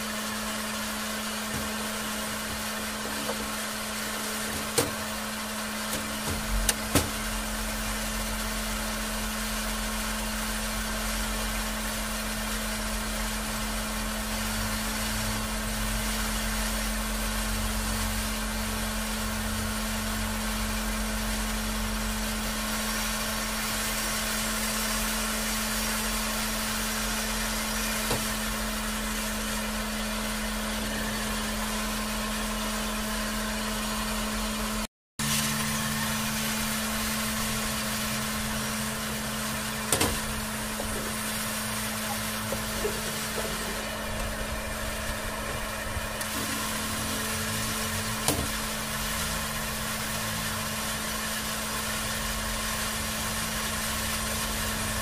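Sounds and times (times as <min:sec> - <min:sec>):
machine hum and hiss: 0:00.0 - 0:55.0.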